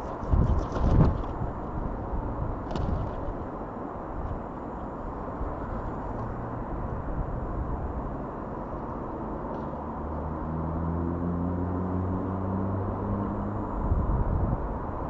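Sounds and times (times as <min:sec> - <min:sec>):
low engine hum: 0:00.0 - 0:15.0
outdoor background rumble: 0:00.0 - 0:15.0.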